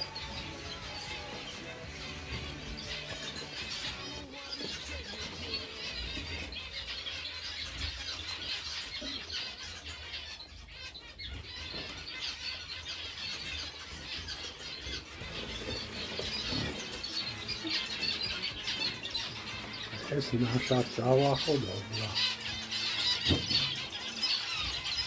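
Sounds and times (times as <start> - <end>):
birds chirping and squealing: 0.0 - 25.0.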